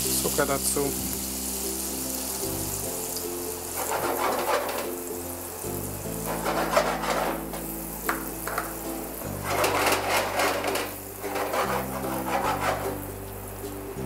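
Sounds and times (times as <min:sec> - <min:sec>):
background music with low notes: 0:00.0 - 0:14.0
margarine sizzling in a frying pan: 0:00.0 - 0:14.0.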